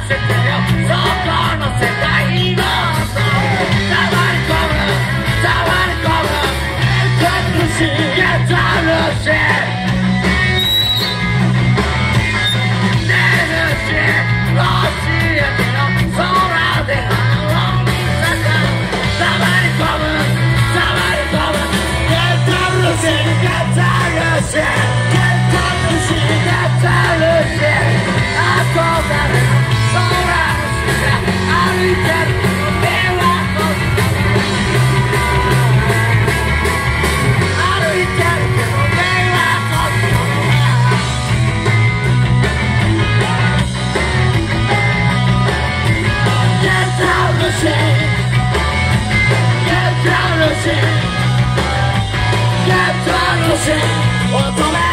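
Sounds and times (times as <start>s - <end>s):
person singing: 0.0s - 9.8s, 12.9s - 36.4s, 37.4s - 41.3s, 46.1s - 48.2s, 49.4s - 54.9s
rock band playing live: 0.0s - 54.9s.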